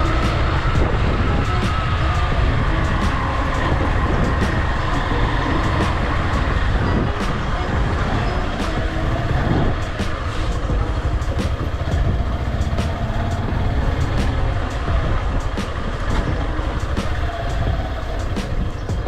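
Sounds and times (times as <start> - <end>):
motorcycle engine running: 0.0 - 19.0
wind rumble on microphone: 0.0 - 19.0.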